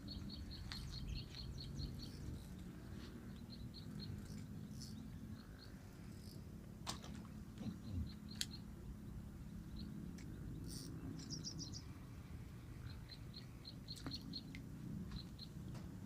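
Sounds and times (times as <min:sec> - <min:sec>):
low steady background rumble: 0:00.0 - 0:16.0
small birds chirping: 0:00.0 - 0:16.0.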